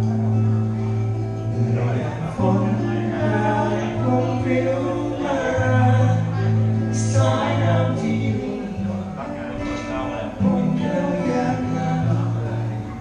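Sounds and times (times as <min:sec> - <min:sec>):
acoustic guitars: 0:00.0 - 0:13.0
man singing into a microphone: 0:01.6 - 0:13.0.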